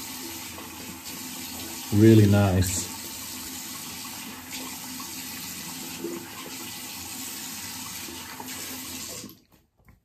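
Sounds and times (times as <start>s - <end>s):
water running from a tap: 0.0s - 9.5s.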